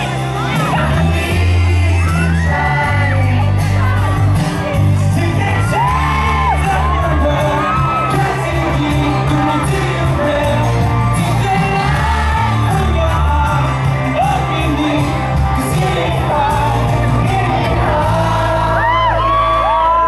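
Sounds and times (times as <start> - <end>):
fans shouting and whooping: 0.0 - 20.0
loud amplified band music: 0.0 - 20.0
man singing into microphone: 0.0 - 20.0.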